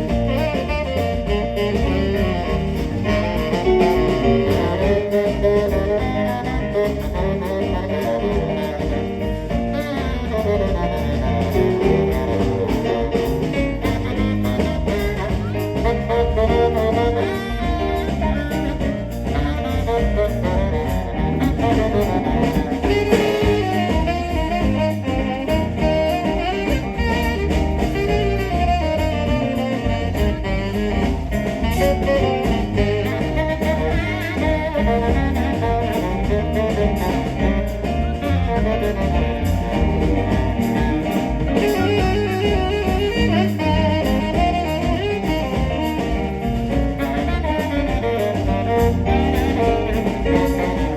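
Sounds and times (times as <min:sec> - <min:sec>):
jazz music with saxophone: 0:00.0 - 0:50.9.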